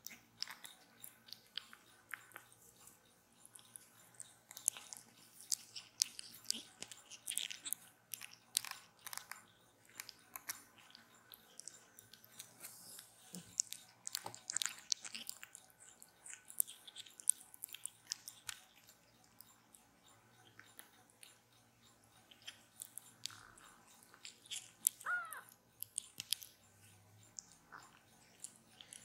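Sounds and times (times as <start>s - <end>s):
kitten suckling clicks: 0.0s - 29.0s.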